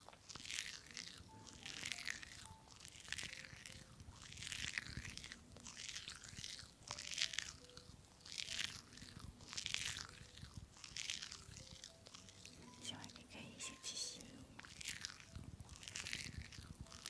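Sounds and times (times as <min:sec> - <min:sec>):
crisp food crunching: 0:00.0 - 0:17.0.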